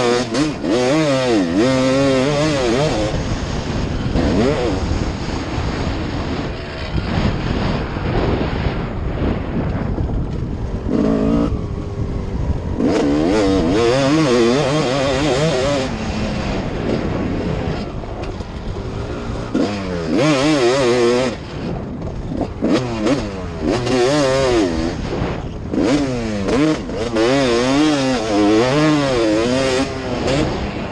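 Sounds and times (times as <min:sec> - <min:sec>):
dirt bike engine revving: 0:00.0 - 0:30.9
wind and road noise: 0:00.0 - 0:30.9.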